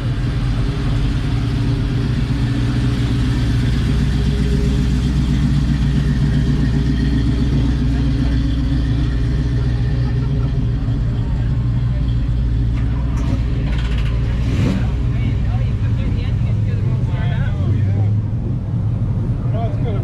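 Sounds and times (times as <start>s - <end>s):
car engine running low: 0.0s - 20.0s.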